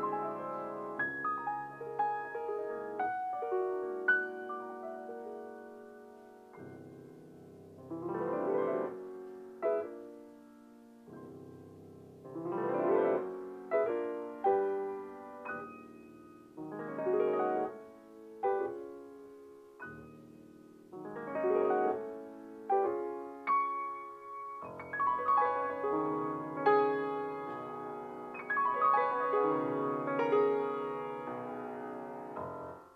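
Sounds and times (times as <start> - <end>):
piano music: 0.0 - 32.9.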